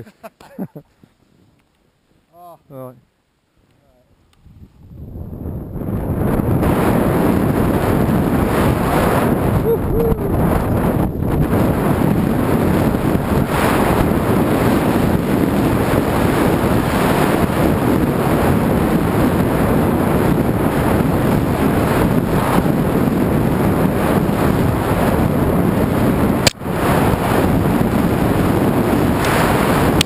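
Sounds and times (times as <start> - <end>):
wind rushing over microphone: 4.3 - 30.0.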